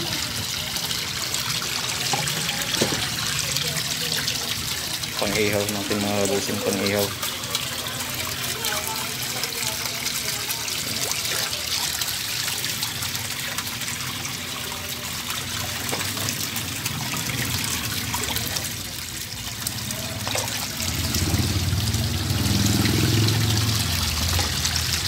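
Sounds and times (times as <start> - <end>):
water splashing and trickling: 0.0 - 25.0.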